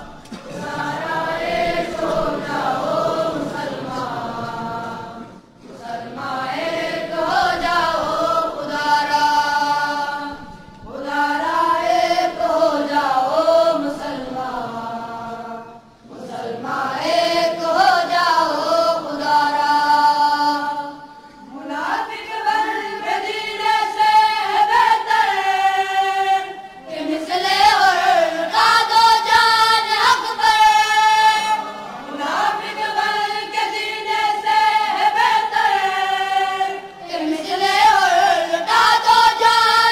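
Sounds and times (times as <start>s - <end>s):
unaccompanied devotional chanting: 0.0s - 39.9s.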